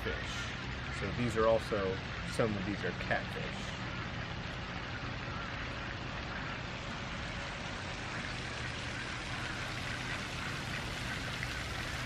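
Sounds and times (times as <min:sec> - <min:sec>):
water pattering: 0:00.0 - 0:12.0.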